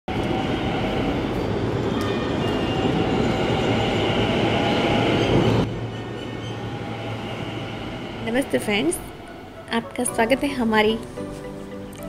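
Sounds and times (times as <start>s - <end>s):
faint high whine: 0.1s - 9.8s
train running on rails: 0.1s - 11.3s.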